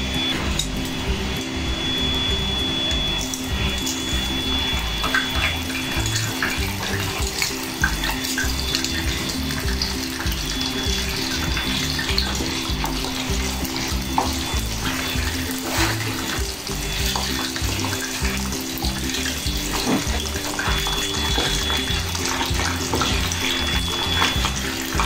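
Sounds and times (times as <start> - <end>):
background music with steady beat: 0.0 - 25.0
pork sizzling in hot oil: 2.4 - 25.0.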